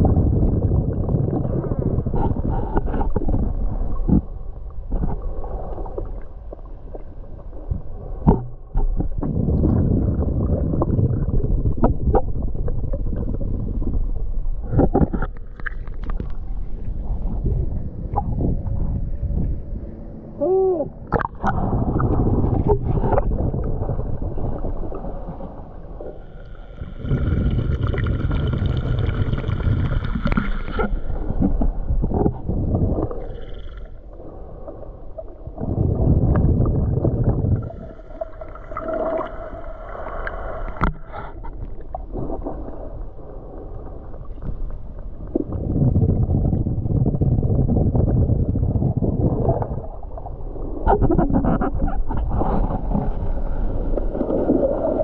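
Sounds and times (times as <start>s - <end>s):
muffled underwater rushing water: 0.0s - 55.0s.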